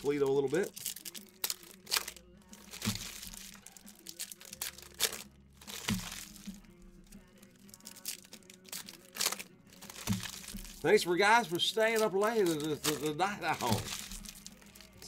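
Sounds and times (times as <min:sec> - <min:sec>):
foil wrappers crinkling and tearing: 0:00.0 - 0:06.7, 0:07.3 - 0:15.0.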